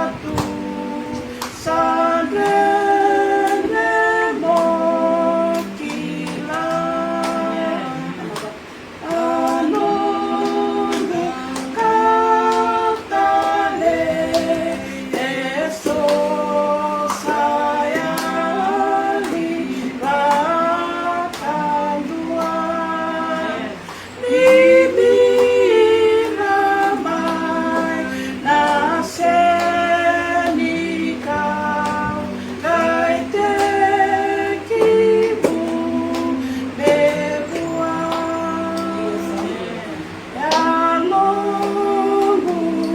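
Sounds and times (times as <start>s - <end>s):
women singing a hymn: 0.0s - 42.9s.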